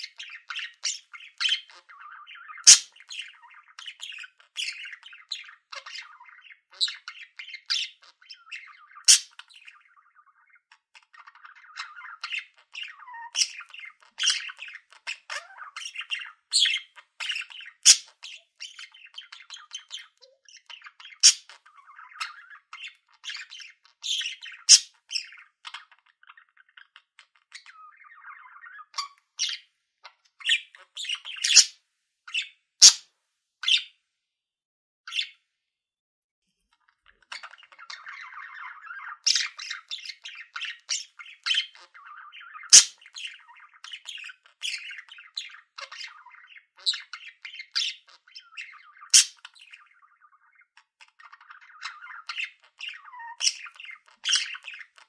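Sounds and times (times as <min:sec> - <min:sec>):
budgerigars chattering: 0:00.0 - 0:29.6, 0:30.4 - 0:31.7, 0:32.3 - 0:33.0, 0:37.1 - 0:55.0.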